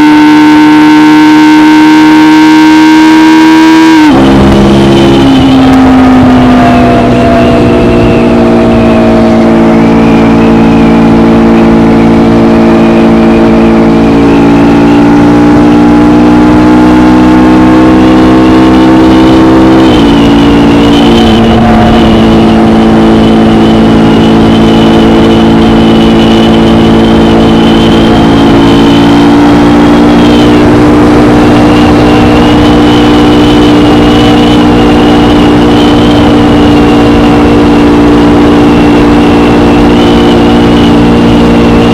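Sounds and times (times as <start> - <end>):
motorcycle engine cruising: 0.0 - 41.9.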